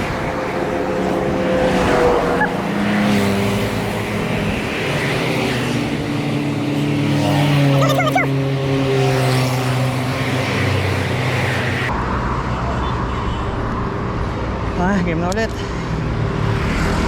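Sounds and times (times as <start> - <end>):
road and wind noise: 0.0 - 17.0
vehicle engines passing: 0.0 - 17.0.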